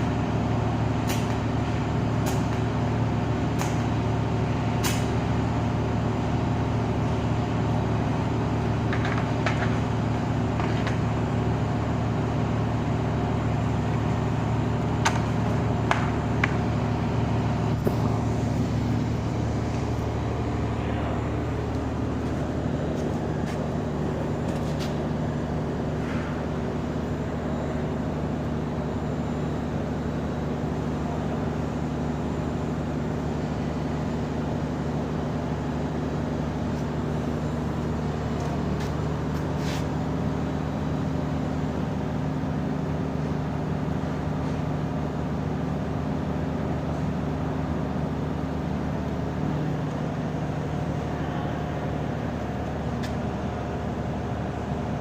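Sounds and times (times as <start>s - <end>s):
machine hum with pitched drone: 0.0s - 55.0s.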